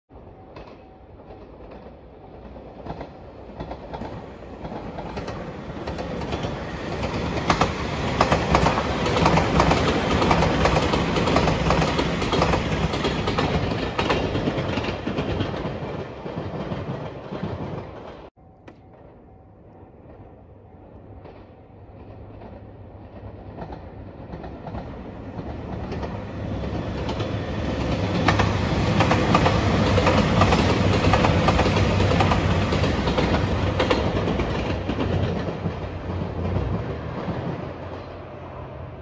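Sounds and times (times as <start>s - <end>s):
electric train passing: 0.1s - 39.0s
wheels clicking over rail joints: 0.5s - 19.2s, 21.2s - 38.2s.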